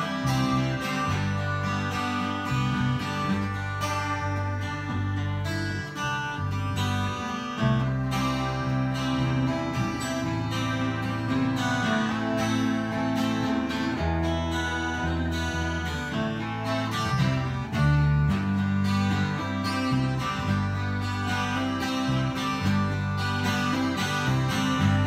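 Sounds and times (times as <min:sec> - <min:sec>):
acoustic guitar strumming: 0:00.0 - 0:25.0
bass guitar line: 0:00.0 - 0:25.0.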